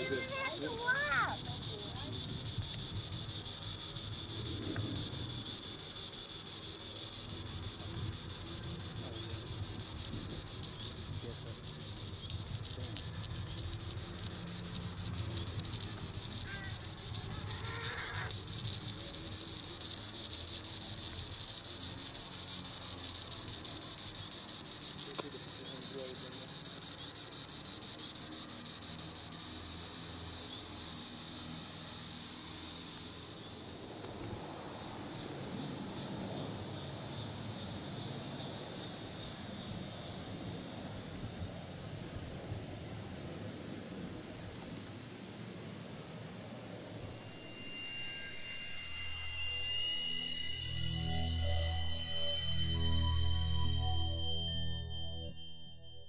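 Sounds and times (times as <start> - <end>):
cicada pulsing buzz: 0.0 - 56.0.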